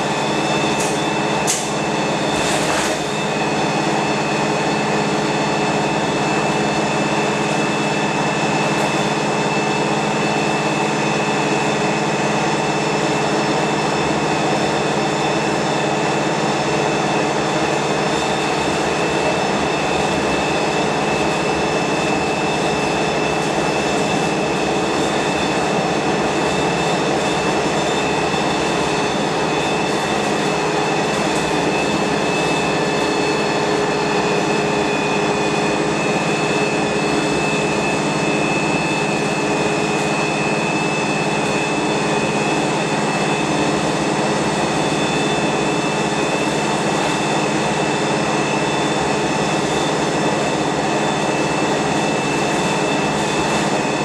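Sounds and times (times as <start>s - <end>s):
bus engine humming and whining: 0.0s - 54.0s.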